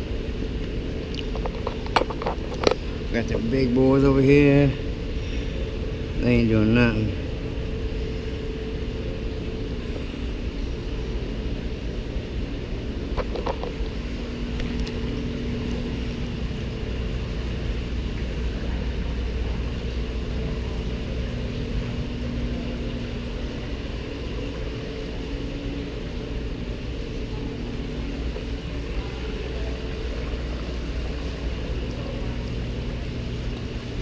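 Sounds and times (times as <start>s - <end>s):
low machinery hum: 0.0s - 34.0s.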